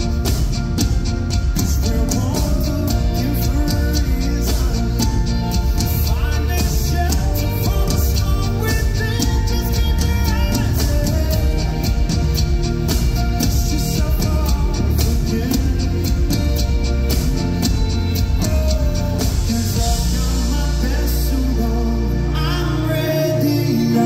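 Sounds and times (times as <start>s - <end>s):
drum kit beating: 0.0s - 21.8s
keyboards: 0.0s - 24.0s
man singing: 0.0s - 24.0s.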